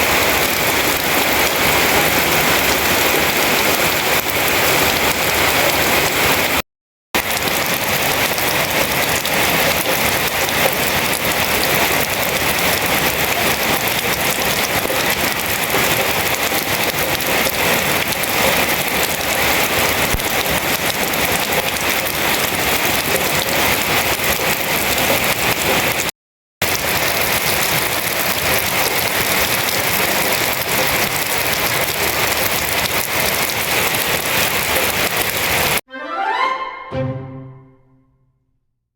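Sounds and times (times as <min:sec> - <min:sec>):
rain falling: 0:00.0 - 0:06.6, 0:07.2 - 0:35.8.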